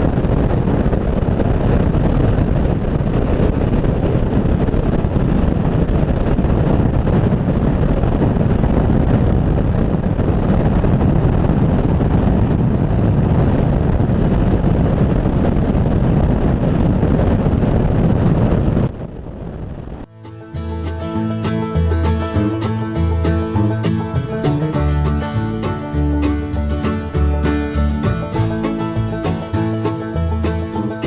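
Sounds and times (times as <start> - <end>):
motorcycle engine and road noise: 0.0 - 31.0
wind buffeting microphone: 0.0 - 31.0.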